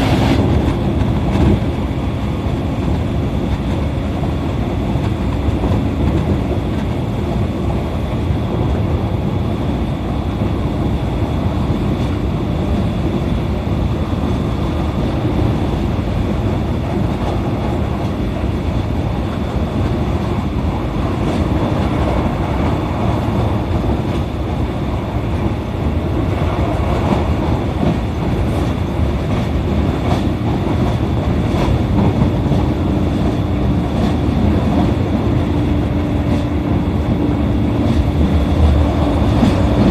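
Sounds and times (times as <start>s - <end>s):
rail joint clicks: 0.0s - 39.9s
train wheels rumbling on rail: 0.0s - 39.9s.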